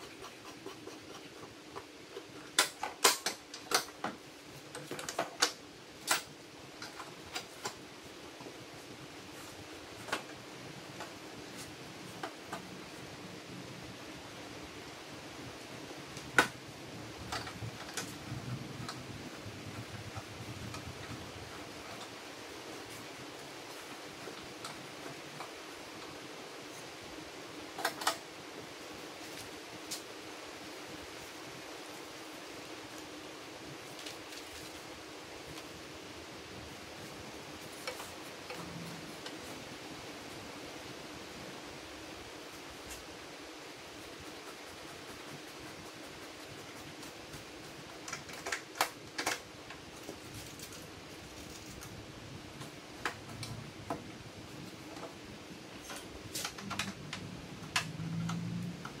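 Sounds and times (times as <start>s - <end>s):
steady fan-like hiss: 0.0s - 59.0s.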